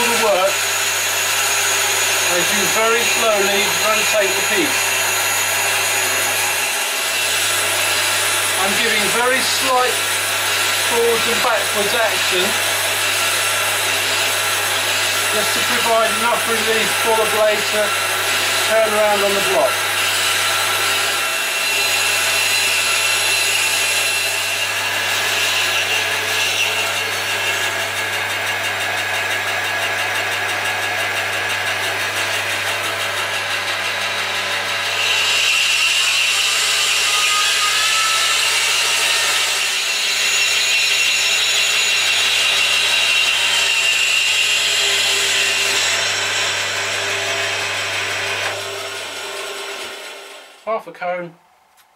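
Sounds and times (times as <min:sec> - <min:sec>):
band saw motor hum: 0:00.0 - 0:50.6
saw blade cutting wood: 0:00.0 - 0:50.8.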